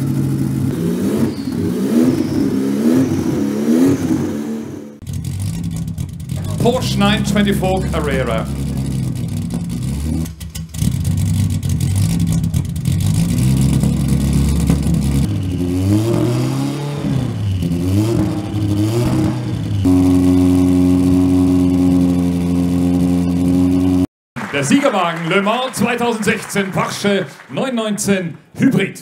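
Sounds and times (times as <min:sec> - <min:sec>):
race car engine revving: 0:00.0 - 0:24.1.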